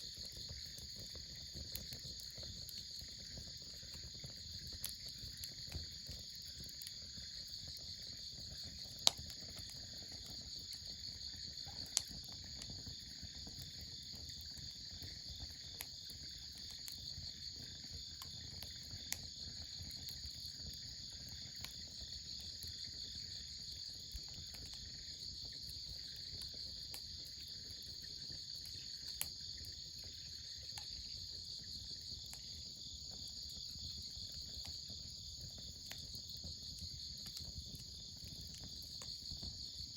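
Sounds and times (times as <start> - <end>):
insects trilling: 0.0 - 39.9
wood fire popping and crackling: 0.0 - 39.9.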